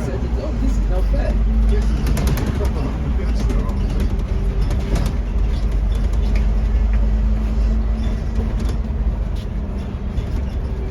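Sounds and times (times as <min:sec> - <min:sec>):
diesel bus engine rumble: 0:00.0 - 0:10.9.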